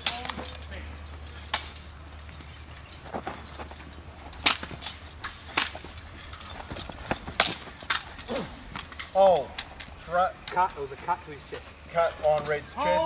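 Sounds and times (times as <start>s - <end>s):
fencing blades clashing: 0.0s - 13.0s.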